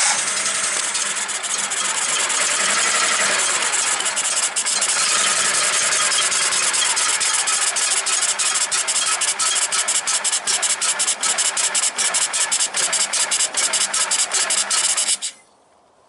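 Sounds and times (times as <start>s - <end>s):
engine cranking: 0.0s - 15.4s.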